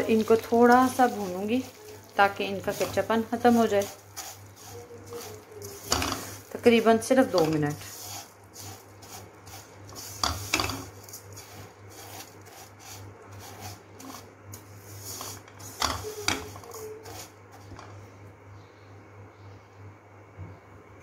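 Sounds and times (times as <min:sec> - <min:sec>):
spatula scraping noodles in pan: 0:00.0 - 0:18.0.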